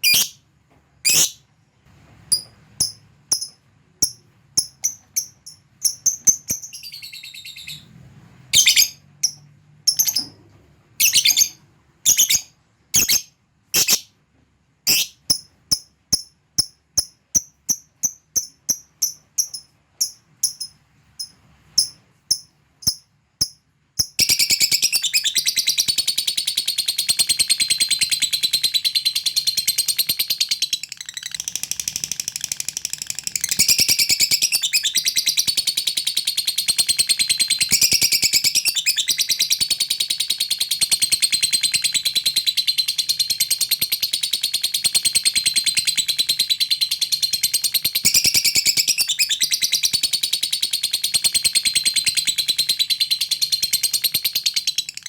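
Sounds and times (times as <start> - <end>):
lovebird chirping: 0.0 - 0.4, 1.0 - 1.4, 2.3 - 7.9, 8.5 - 10.4, 11.0 - 14.1, 14.8 - 55.0.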